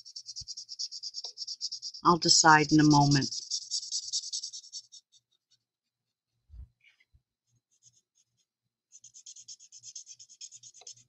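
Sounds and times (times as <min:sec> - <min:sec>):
marker scratching on cardstock: 0:00.0 - 0:06.3, 0:07.4 - 0:11.0.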